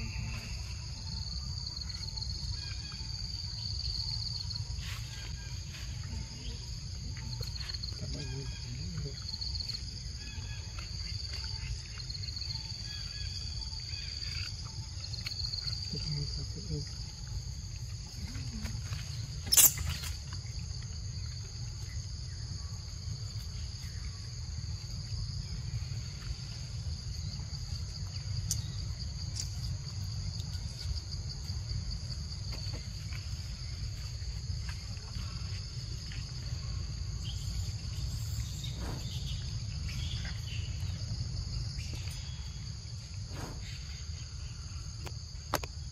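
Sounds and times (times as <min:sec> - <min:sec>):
insects chirring: 0:00.0 - 0:45.9.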